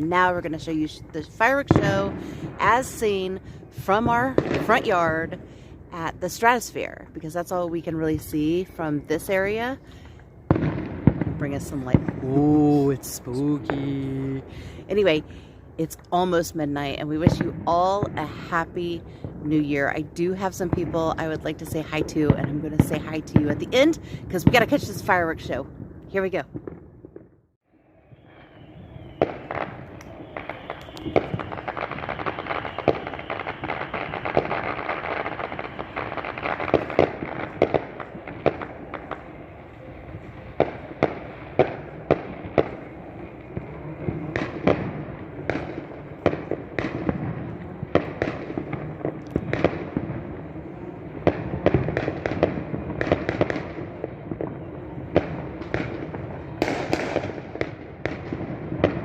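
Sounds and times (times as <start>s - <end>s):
fireworks crackling and banging: 0.0s - 27.4s, 28.0s - 59.0s.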